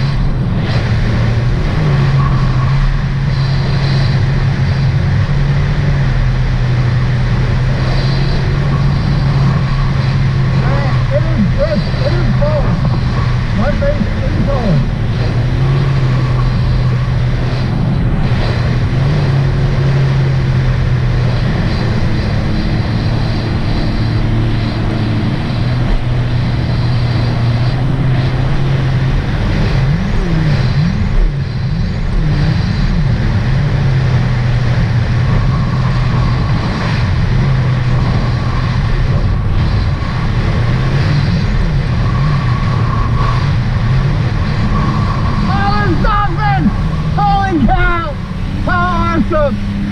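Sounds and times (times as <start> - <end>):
rush of wind and water: 0.0 - 49.9
watercraft engine running: 0.0 - 49.9.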